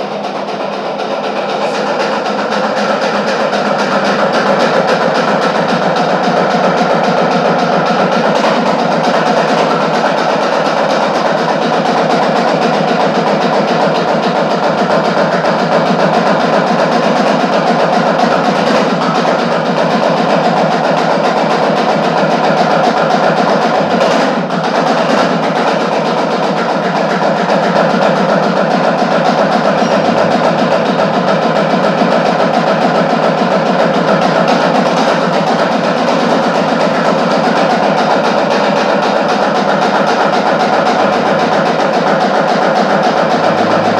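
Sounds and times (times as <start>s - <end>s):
drum roll: 0.0s - 43.9s.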